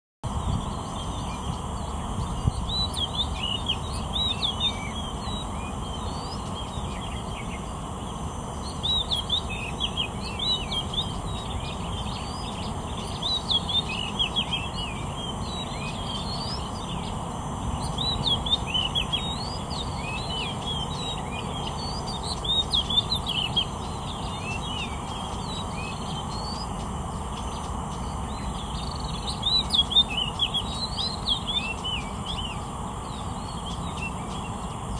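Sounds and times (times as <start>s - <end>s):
steady background noise: 0.2s - 34.9s
magpie-robin singing: 0.3s - 34.9s.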